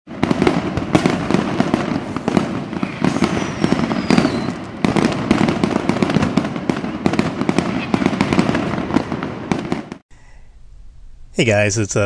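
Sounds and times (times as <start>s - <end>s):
firework whistle falling: 0.1s - 10.0s
fireworks bangs and crackles: 0.1s - 10.0s.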